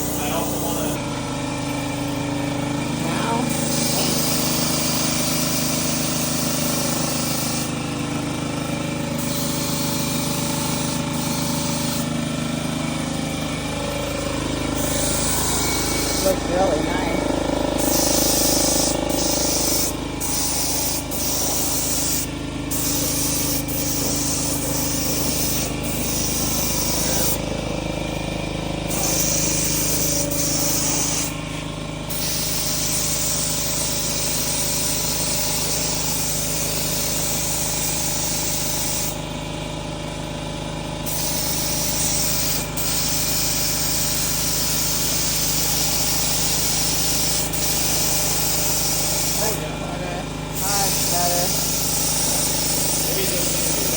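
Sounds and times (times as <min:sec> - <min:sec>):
paint sprayer hissing: 0:00.0 - 0:39.4, 0:41.0 - 0:53.9.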